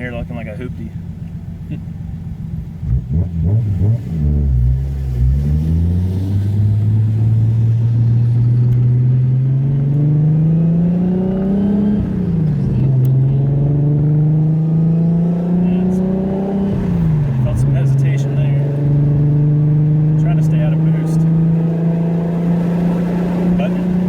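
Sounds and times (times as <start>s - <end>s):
car engine revving at light throttle: 0.0s - 24.0s.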